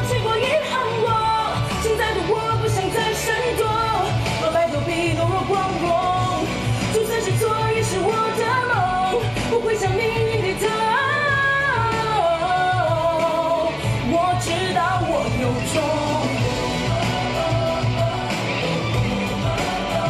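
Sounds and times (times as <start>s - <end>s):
backing track with steady beat: 0.0s - 20.0s
woman singing: 0.0s - 20.0s.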